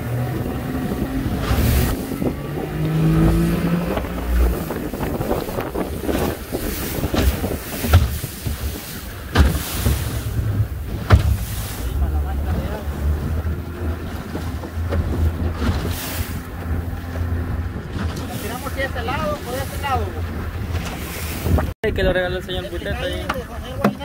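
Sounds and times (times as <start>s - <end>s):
wind on microphone: 0.0s - 23.8s
hull slapping on waves: 0.0s - 24.0s
outboard motor: 0.0s - 24.0s
water rushing along hull: 0.0s - 24.0s.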